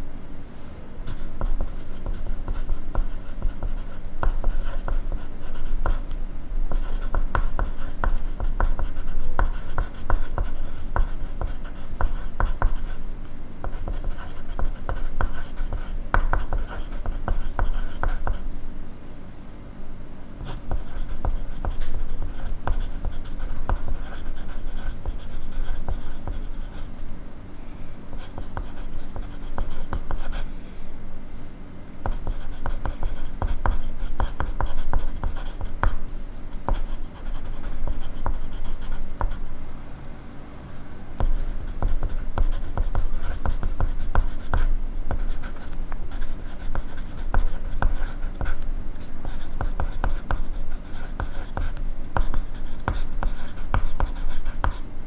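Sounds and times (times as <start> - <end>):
pencil scratching on paper: 1.1 - 6.0, 6.7 - 13.0, 13.7 - 18.4, 20.4 - 26.9, 28.1 - 30.4, 32.1 - 39.4, 41.2 - 54.8.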